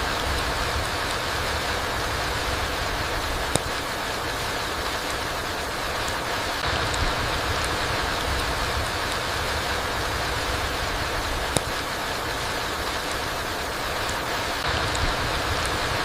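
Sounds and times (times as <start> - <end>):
rain falling on forest floor: 0.0 - 16.0.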